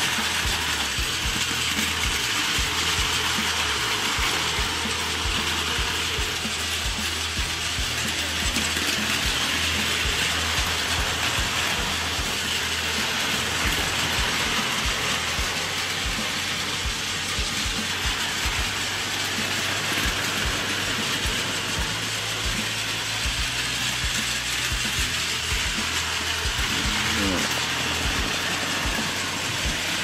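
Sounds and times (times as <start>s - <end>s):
toy train motors whirring: 0.0s - 30.0s
wheels clicking over rail joints: 0.0s - 30.0s.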